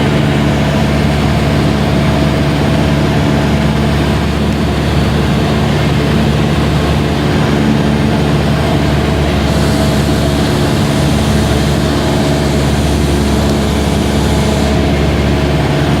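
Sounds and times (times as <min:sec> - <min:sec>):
light aircraft engine droning: 0:00.0 - 0:16.0
rush of air noise: 0:00.0 - 0:16.0.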